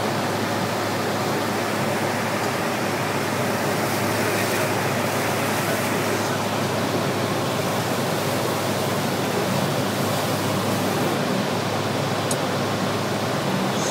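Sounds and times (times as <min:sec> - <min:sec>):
aircraft cabin engine noise: 0:00.0 - 0:13.9.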